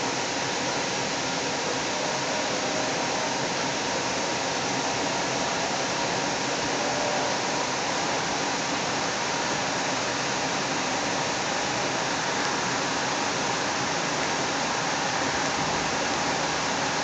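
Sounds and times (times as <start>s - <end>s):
ventilation noise: 0.0s - 17.0s.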